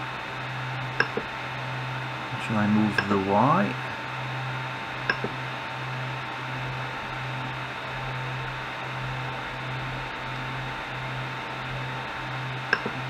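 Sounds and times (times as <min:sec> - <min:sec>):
stepper motor humming: 0:00.0 - 0:13.0.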